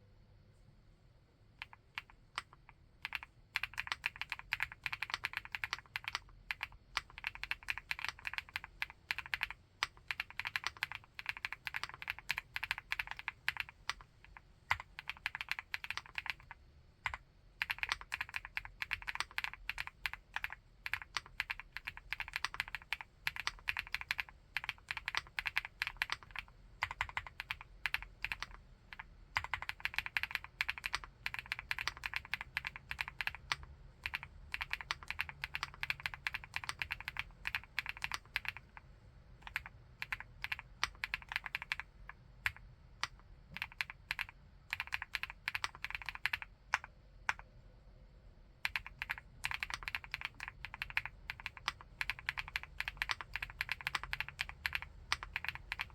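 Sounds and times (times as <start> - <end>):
fast typing on keyboard: 1.6 - 38.8, 39.4 - 47.4, 48.6 - 55.9.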